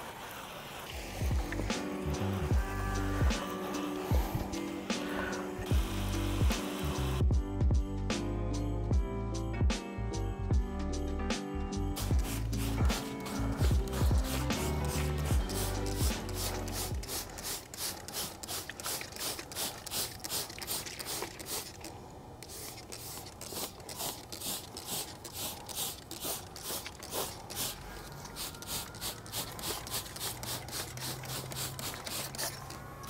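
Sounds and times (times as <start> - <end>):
trigger sprayer hissing sprays: 0.0 - 7.3, 12.0 - 32.8.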